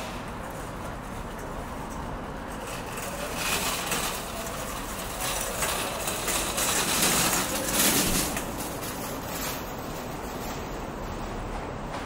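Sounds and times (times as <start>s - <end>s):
traffic rumble: 0.0s - 12.0s
vehicles passing: 0.0s - 12.0s.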